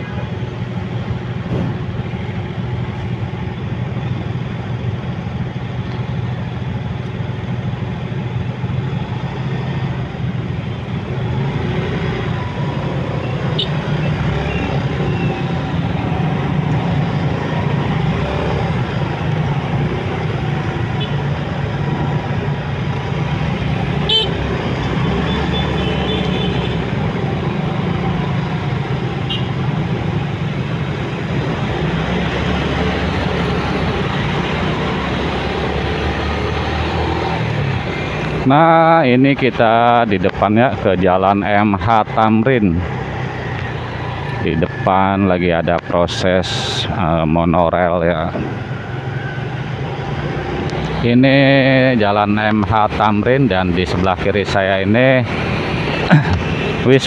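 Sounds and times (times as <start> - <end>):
motorcycle and scooter engines droning: 0.0 - 57.0.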